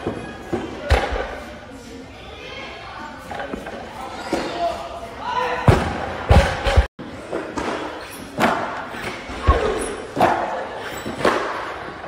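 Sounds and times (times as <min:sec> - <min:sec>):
faint voices in a large hall: 0:00.0 - 0:12.0.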